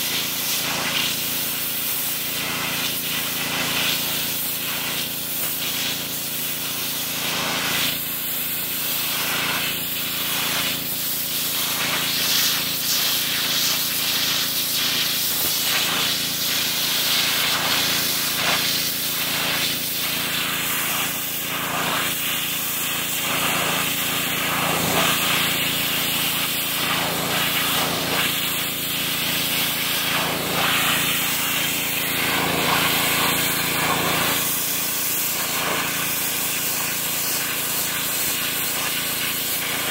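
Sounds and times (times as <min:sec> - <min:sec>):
pressure washer jet hissing: 0:00.0 - 0:39.9
pump humming: 0:00.0 - 0:39.9.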